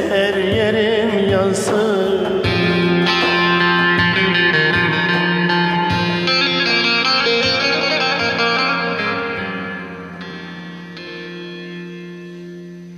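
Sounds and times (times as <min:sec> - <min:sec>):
plucked strings through effects: 0:00.0 - 0:12.9.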